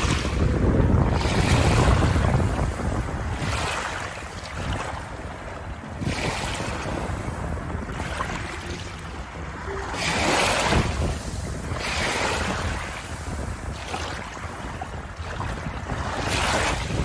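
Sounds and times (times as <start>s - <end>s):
water rushing in surges: 0.0s - 17.0s.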